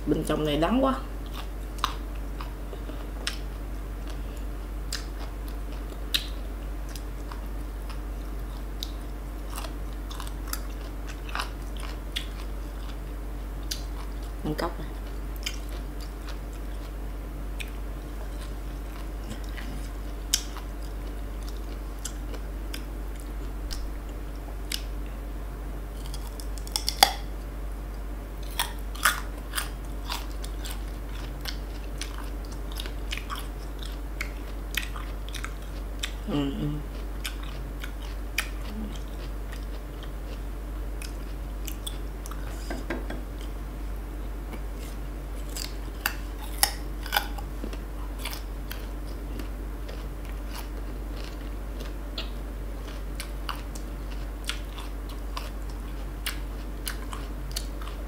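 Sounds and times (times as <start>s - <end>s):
crunching and chewing fruit: 0.9s - 25.2s, 25.8s - 58.0s.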